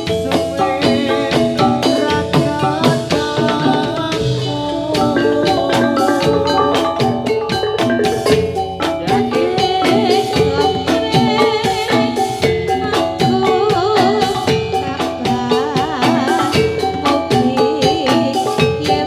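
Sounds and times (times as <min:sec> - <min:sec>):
drum beat: 0:00.0 - 0:19.0
metallophones ringing: 0:00.0 - 0:19.0
person singing: 0:00.0 - 0:19.0.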